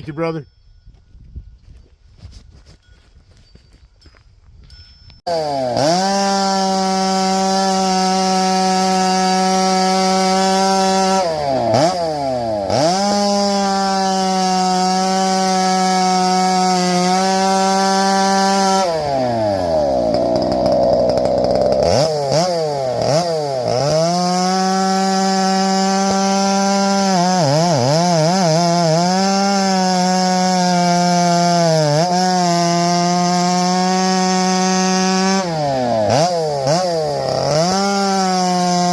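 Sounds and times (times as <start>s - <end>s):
chainsaw cutting at high revs: 5.3s - 38.9s.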